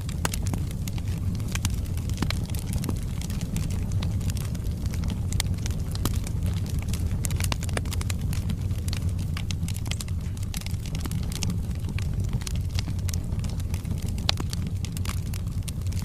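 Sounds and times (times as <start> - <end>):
low rumble: 0.0 - 16.0
sharp pops and snaps: 0.0 - 16.0
wood fire crackling: 0.0 - 16.0.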